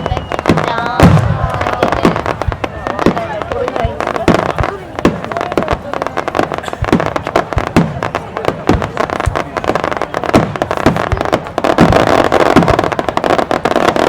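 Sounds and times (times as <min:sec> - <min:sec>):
fireworks bursting with booms: 0:00.0 - 0:14.0.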